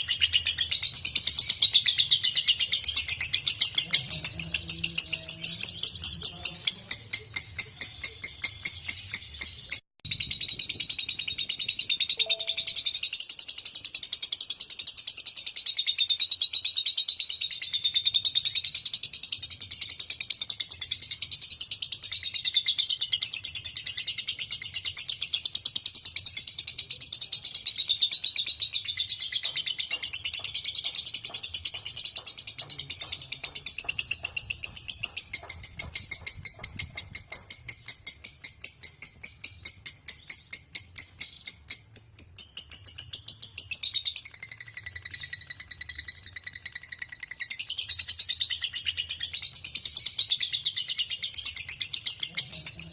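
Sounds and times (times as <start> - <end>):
lovebird chattering: 0.0 - 15.8, 26.3 - 52.9.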